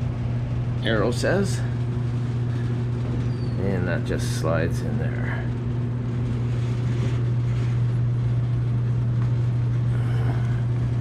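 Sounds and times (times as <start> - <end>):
furnace humming: 0.0 - 11.0.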